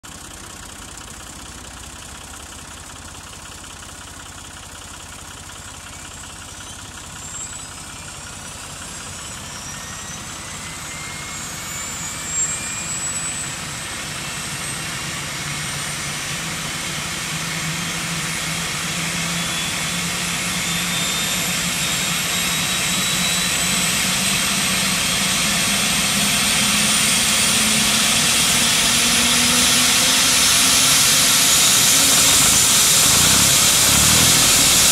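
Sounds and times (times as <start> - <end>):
helicopter turbine whine: 5.8 - 34.9.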